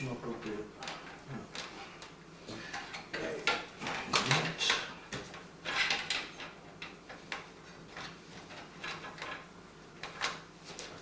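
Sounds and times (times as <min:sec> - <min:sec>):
cables clicking and rustling: 0:00.3 - 0:11.0.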